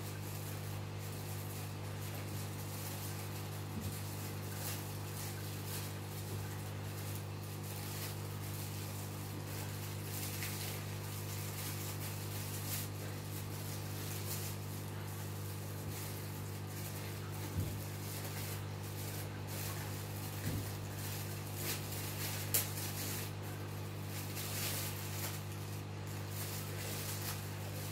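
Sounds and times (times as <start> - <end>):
aquarium filter pump humming: 0.0 - 27.9.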